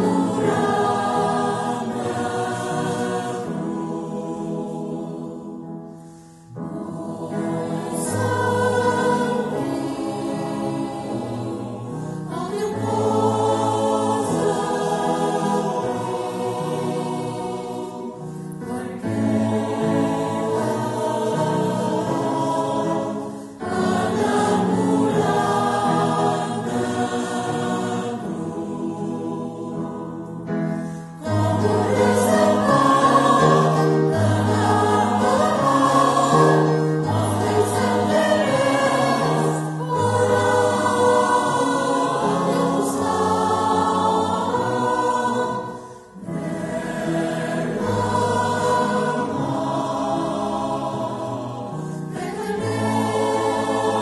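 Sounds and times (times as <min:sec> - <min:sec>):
choir singing a slow hymn: 0:00.0 - 0:54.0.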